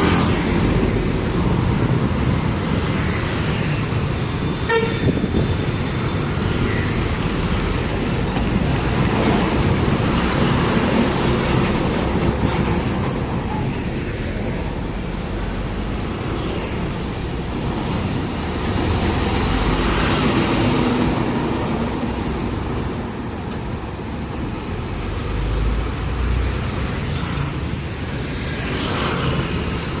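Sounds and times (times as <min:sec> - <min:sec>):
heavy trucks driving past: 0:00.0 - 0:30.0.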